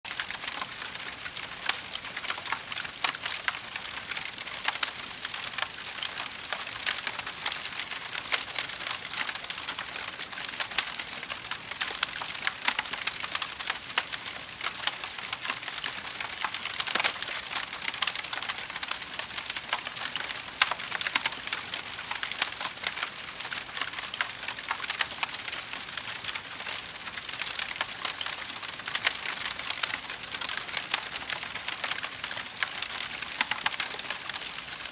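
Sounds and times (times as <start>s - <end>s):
fire crackling: 0.1s - 34.9s.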